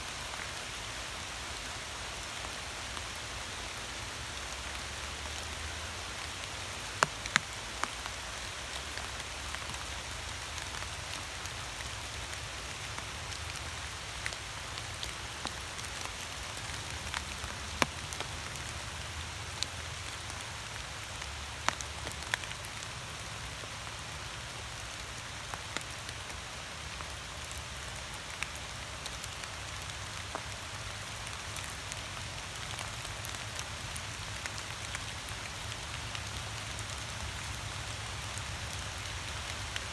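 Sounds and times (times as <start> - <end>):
steady rain hiss: 0.0 - 39.9
raindrops tapping close by: 1.1 - 39.9.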